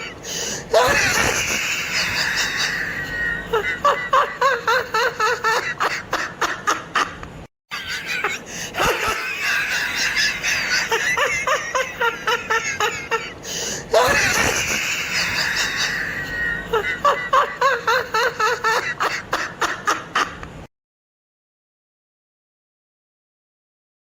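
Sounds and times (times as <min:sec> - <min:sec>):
person laughing maniacally: 0:00.0 - 0:20.4.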